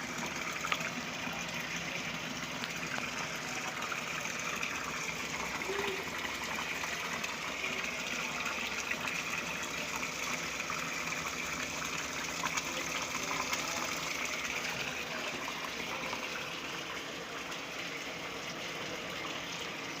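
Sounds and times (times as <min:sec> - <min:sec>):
running water pouring: 0:00.0 - 0:20.0.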